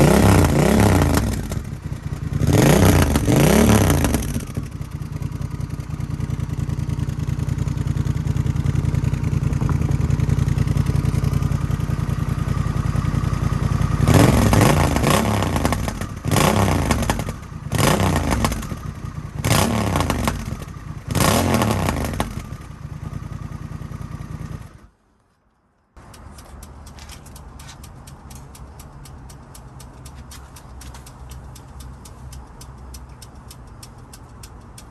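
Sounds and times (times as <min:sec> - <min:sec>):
motorcycle engine idling and revving: 0:00.0 - 0:25.0, 0:26.0 - 0:34.9.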